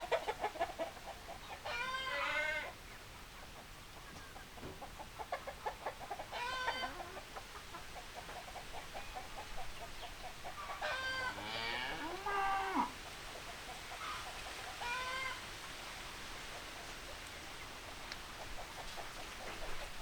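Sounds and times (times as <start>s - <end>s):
chickens clucking: 0.0s - 20.0s
drawn-out chicken calls: 0.0s - 20.0s.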